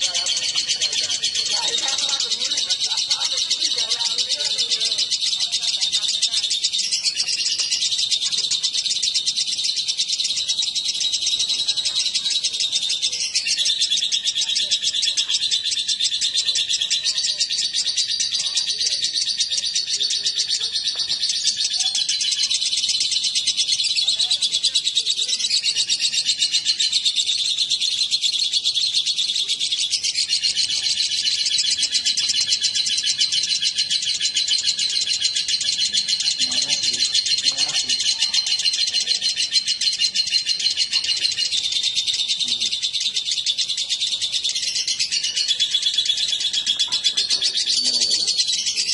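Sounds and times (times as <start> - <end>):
lovebirds chattering: 0.0 - 48.9.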